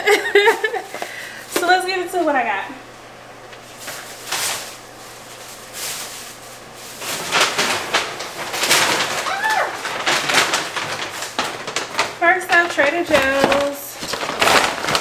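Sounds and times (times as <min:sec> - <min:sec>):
shopping bags rustling: 0:00.1 - 0:02.5, 0:03.6 - 0:15.0.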